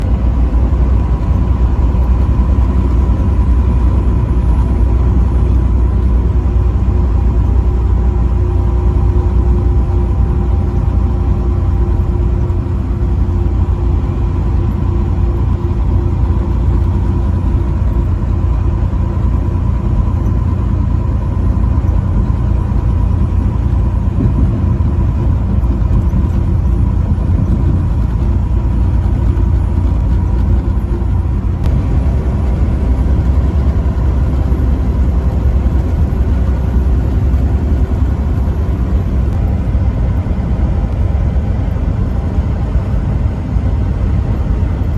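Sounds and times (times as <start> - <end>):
vehicle driving rumble: 0.0 - 44.9.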